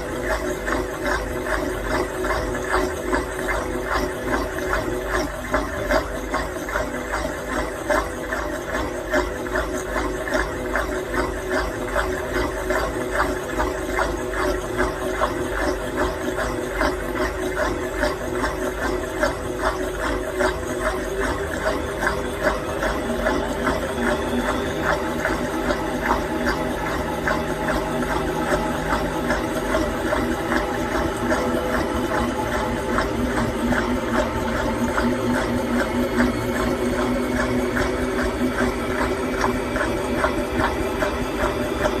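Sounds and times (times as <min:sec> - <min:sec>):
rhythmic knocking: 0:00.0 - 0:42.0
washing machine spinning: 0:00.0 - 0:42.0.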